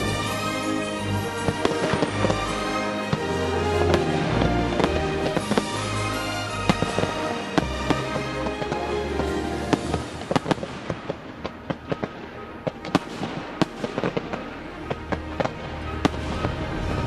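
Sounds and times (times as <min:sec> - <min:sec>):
fireworks bangs and cracks: 0:00.0 - 0:17.0
music: 0:00.0 - 0:17.0.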